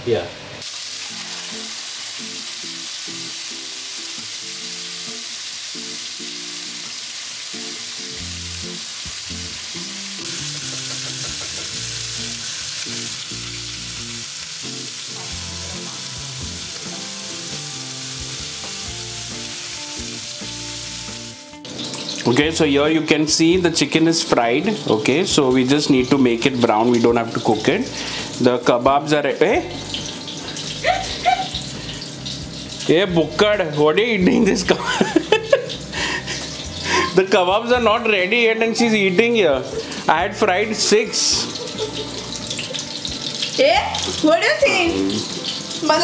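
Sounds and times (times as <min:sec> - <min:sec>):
chicken sizzling in frying pan: 0:00.0 - 0:46.0.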